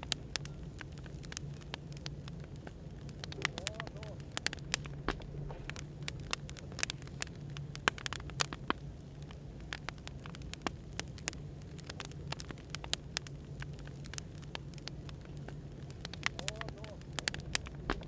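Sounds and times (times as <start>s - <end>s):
low hum of white noise: 0.0s - 18.0s
wood fire crackling and popping: 0.0s - 18.0s.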